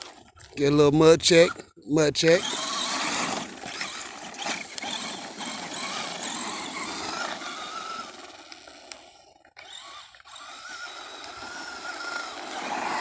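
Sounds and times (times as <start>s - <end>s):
rc car electric motor whining: 2.2s - 13.0s.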